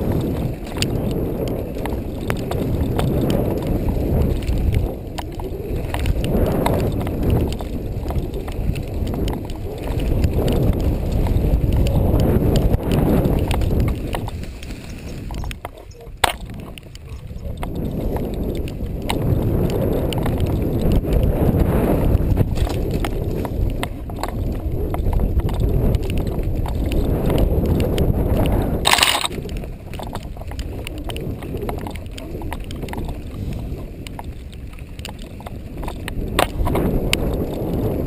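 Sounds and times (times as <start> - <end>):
bike rattles and knocks: 0.0 - 21.3, 22.1 - 38.0
bike tyres rumbling on dirt: 0.0 - 38.0.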